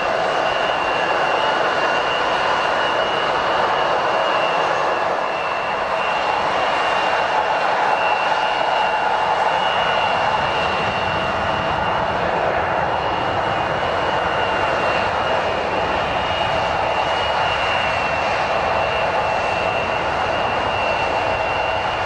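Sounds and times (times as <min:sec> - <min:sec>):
jet engines running with whine: 0:00.0 - 0:22.0.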